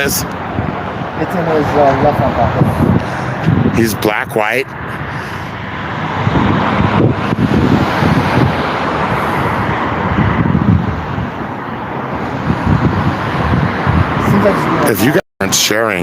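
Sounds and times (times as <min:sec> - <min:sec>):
wind buffeting microphone: 0:00.0 - 0:15.2
road traffic noise: 0:00.0 - 0:16.0.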